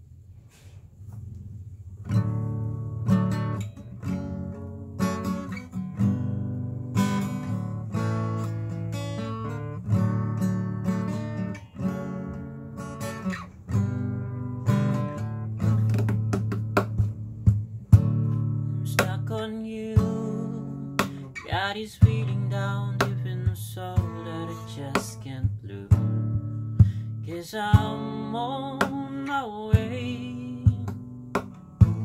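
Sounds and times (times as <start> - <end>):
acoustic guitar strumming chords: 2.0 - 32.0.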